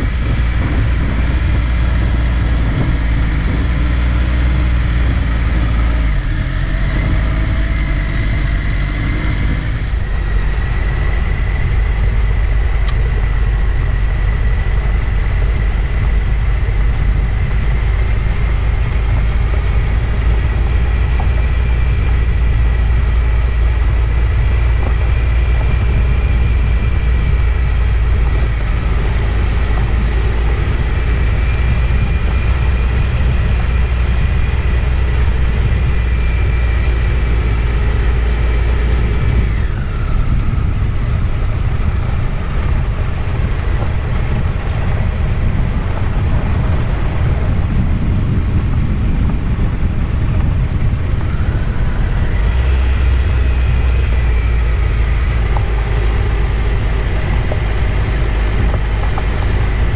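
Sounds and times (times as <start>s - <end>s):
high whine: 0.0s - 59.9s
motorcycle engine running: 0.0s - 59.9s
wind rumble on camera: 0.0s - 59.9s.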